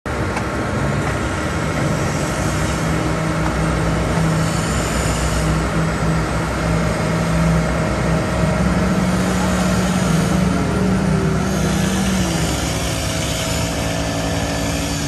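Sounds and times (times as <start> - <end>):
diesel engine running: 0.1 - 15.0.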